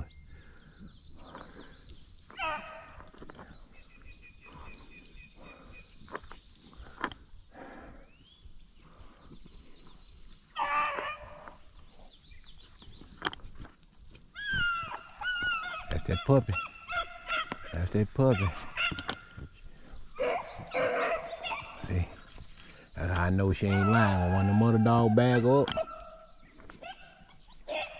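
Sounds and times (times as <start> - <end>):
distant hounds baying: 0.0 - 12.2, 14.4 - 27.9
insects chorus: 0.0 - 27.9.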